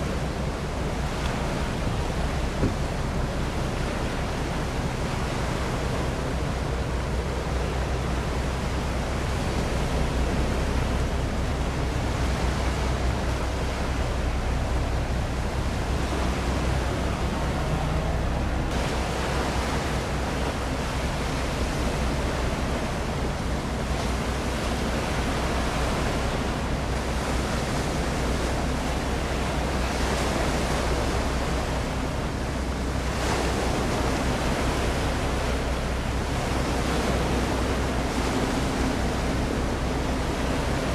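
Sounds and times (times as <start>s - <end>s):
sea water lapping: 0.0s - 40.9s
wind: 0.0s - 40.9s.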